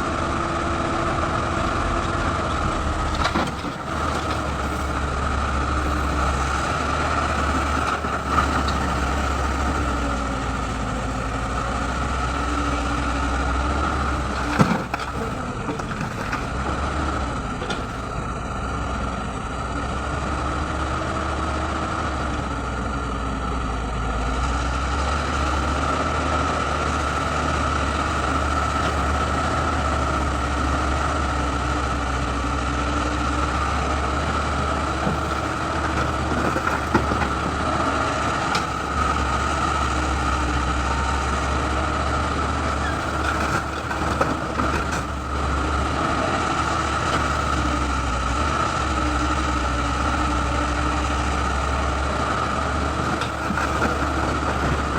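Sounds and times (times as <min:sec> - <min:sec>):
excavator diesel engine whining: 0:00.0 - 0:54.9.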